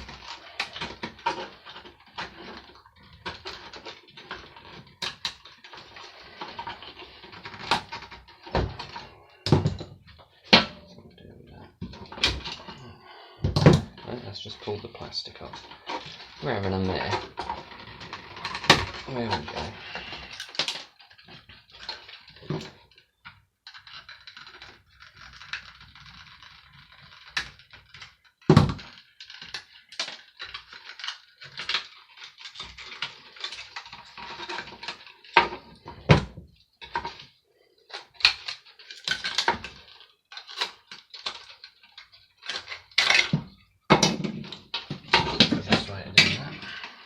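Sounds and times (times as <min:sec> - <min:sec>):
plastic parts clicking and rattling: 0:00.0 - 0:47.0.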